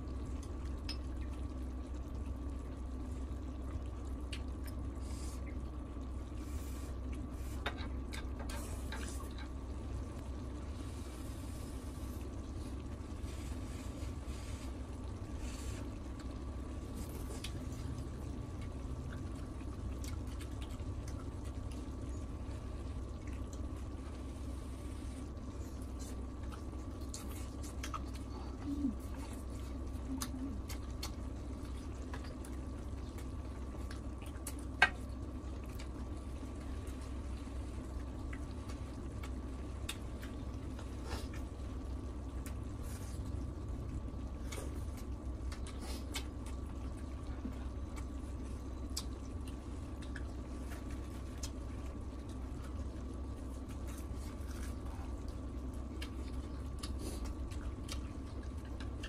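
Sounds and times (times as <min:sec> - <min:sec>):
steady low hum: 0:00.0 - 0:59.0
chewing and slurping: 0:00.3 - 0:59.0.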